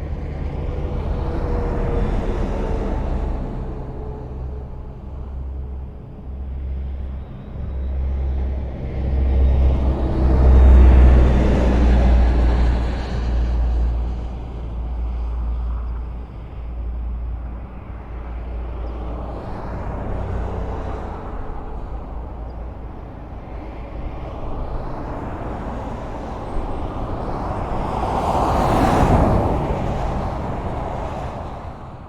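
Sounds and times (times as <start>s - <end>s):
cars rushing on highway: 0.0s - 32.0s
vehicle approaching: 0.0s - 32.0s.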